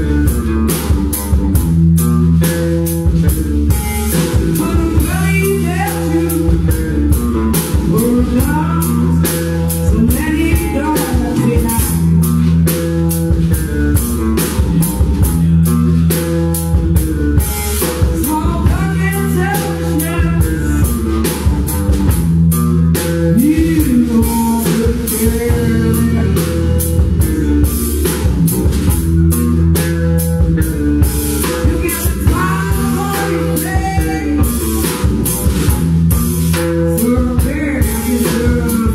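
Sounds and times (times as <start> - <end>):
blues-rock band playing: 0.0 - 38.9
drum kit beat: 0.0 - 38.9
electric guitar: 0.0 - 38.9.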